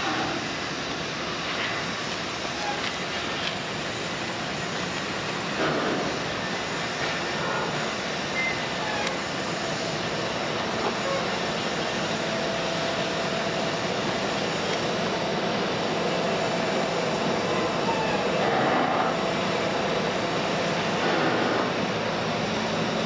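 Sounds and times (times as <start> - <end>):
ship machinery rushing: 0.0 - 23.0.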